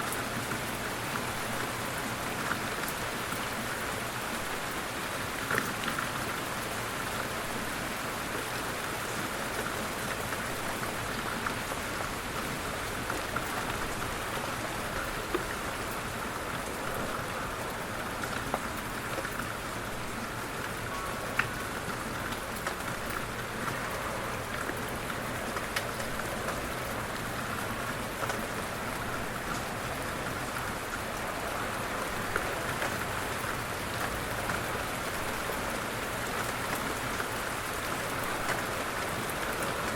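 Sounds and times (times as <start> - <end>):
light rain hissing: 0.0 - 39.9.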